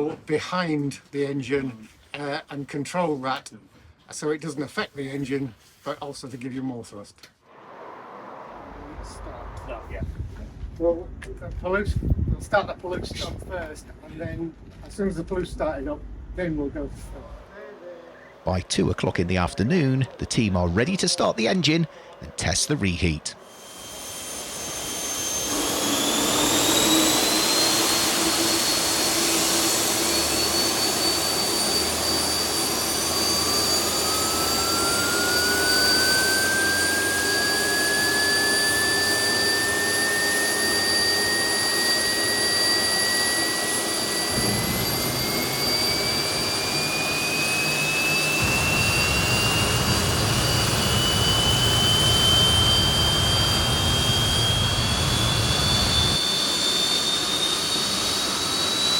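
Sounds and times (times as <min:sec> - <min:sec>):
turbine whine climbing: 0:07.6 - 0:58.9.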